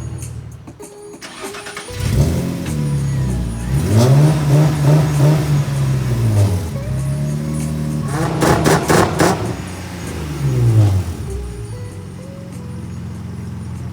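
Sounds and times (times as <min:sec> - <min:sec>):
car engine revving: 0:00.0 - 0:13.9
exhaust pops: 0:00.0 - 0:13.9.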